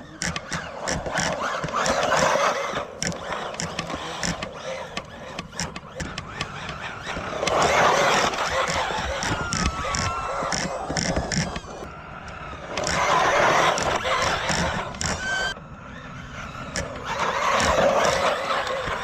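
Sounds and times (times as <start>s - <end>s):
rc car scrabbling on gravel: 0.0s - 19.0s.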